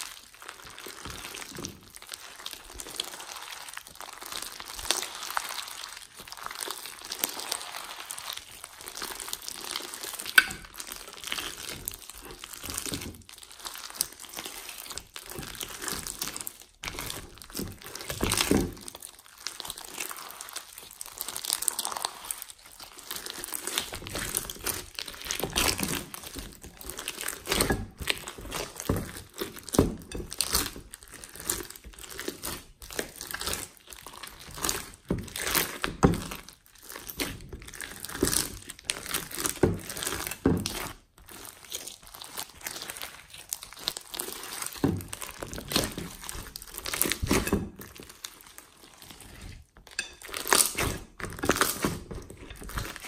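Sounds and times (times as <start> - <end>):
slime beads crunching: 0.0 - 53.0.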